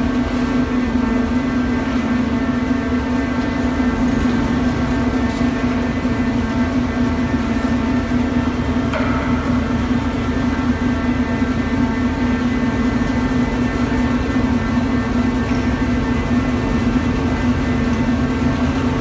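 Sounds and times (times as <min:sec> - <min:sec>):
shaking table machine hum: 0:00.0 - 0:19.0.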